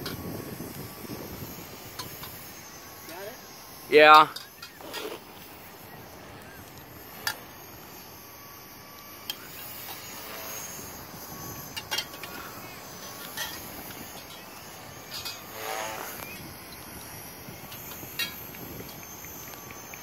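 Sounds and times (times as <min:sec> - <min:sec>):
distant toy helicopter whine: 0:00.0 - 0:20.0
wind: 0:00.0 - 0:20.0.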